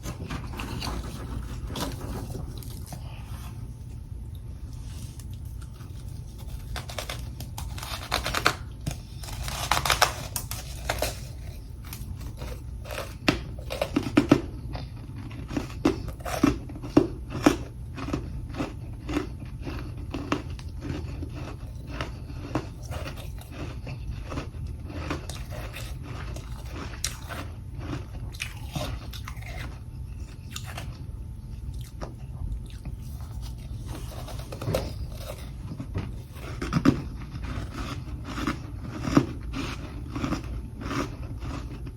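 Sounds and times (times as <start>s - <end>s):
chewing crunchy frost: 0.0s - 41.9s.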